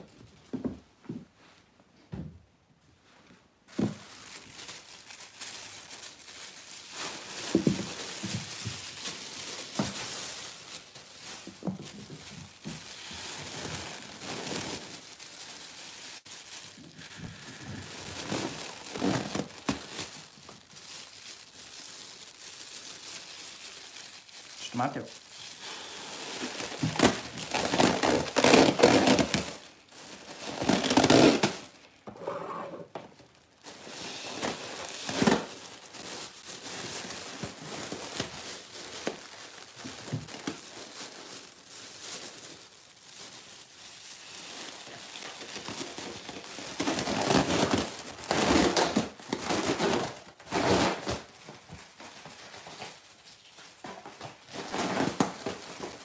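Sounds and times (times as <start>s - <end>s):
plastic bag crinkling: 3.7s - 32.1s, 32.8s - 56.0s.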